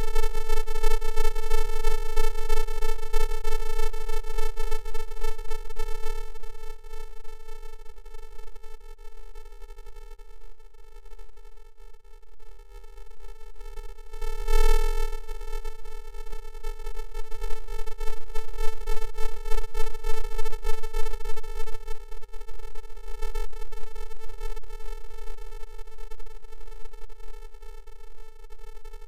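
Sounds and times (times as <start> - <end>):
steady buzzing tone: 0.0 - 29.0.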